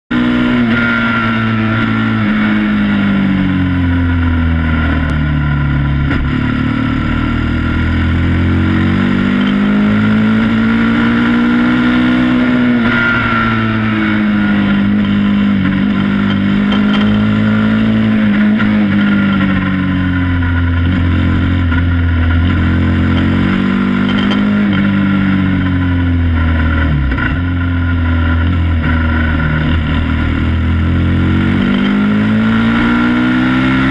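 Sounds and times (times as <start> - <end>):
quad engine revving: 0.1 - 33.9.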